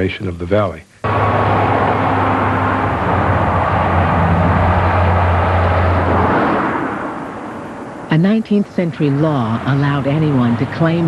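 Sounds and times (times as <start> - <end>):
truck passing on highway: 1.0 - 11.0.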